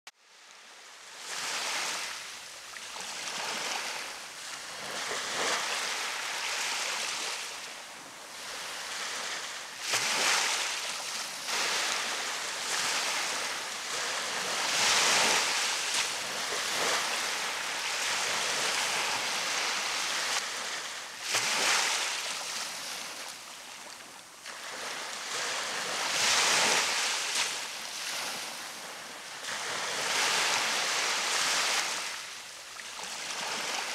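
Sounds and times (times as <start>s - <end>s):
ocean waves breaking on beach: 0.2s - 33.9s.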